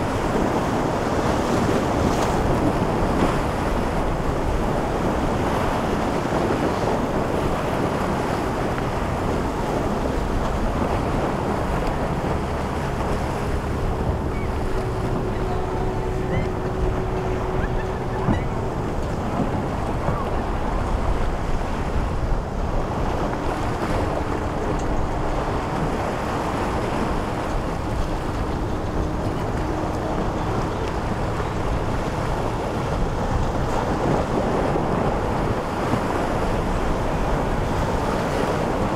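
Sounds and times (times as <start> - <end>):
faint boat engine drone: 0.0 - 38.9
surf washing: 0.0 - 38.9
wind buffeting microphone: 0.0 - 38.9.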